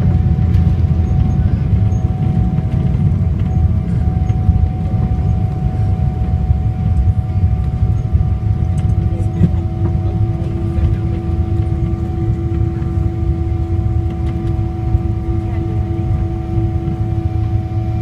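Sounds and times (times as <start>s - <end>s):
aircraft cabin rumble: 0.0s - 18.0s
constant hum: 0.0s - 18.0s
second steady hum: 0.0s - 18.0s.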